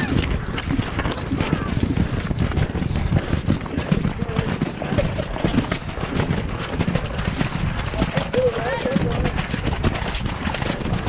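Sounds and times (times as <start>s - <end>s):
hoofbeats on wet turf: 0.0s - 11.0s
wind buffeting microphone: 0.0s - 11.0s.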